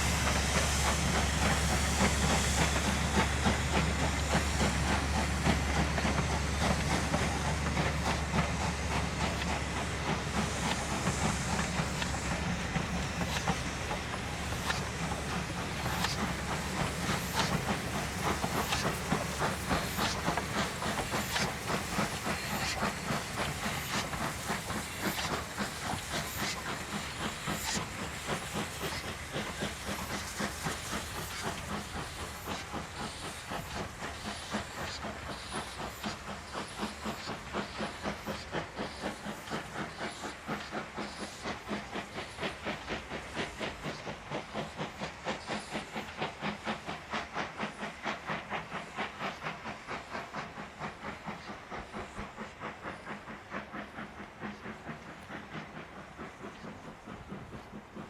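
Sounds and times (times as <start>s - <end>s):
steam hissing: 0.0s - 58.0s
steam locomotive chuffing: 0.0s - 58.0s.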